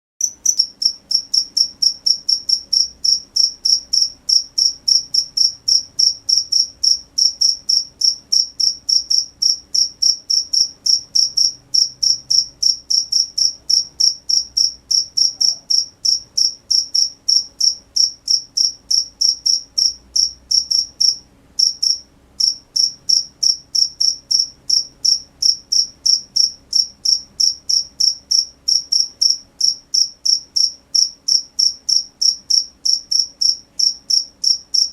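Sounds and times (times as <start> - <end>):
cricket chirping: 0.2 - 34.9.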